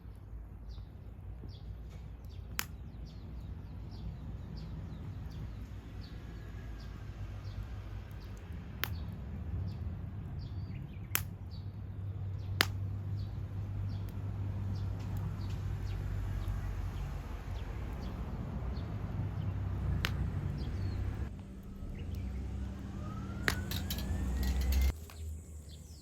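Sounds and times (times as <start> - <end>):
campfire crackling and popping: 0.0 - 26.0
low hum: 0.0 - 26.0.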